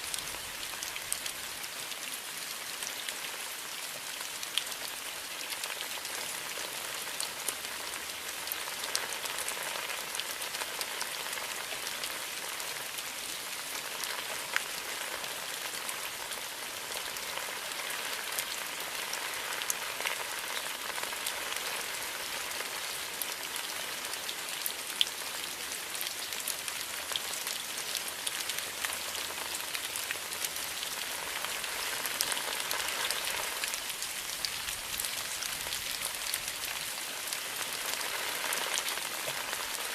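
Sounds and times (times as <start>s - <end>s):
steady rain hiss: 0.0s - 39.9s
raindrops ticking: 4.4s - 39.9s.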